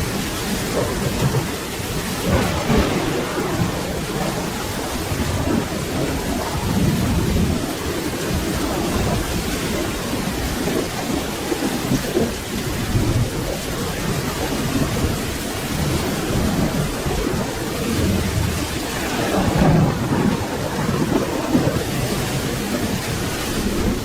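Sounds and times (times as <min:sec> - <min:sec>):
low rolling thunder: 0:00.0 - 0:24.0
steady rain: 0:00.0 - 0:24.0.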